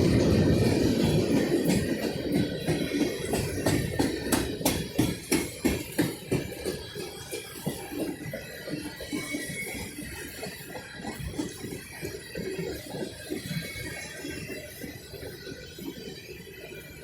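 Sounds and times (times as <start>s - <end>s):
train wheels clicking over rail joints: 0.0s - 13.7s
metallic rattling of train cars: 0.0s - 14.0s.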